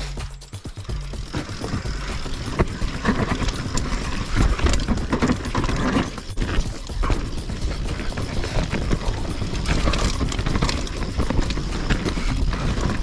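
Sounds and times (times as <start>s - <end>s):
bike chain and frame rattling: 0.0s - 13.0s
tyres rolling on dirt: 0.0s - 13.0s.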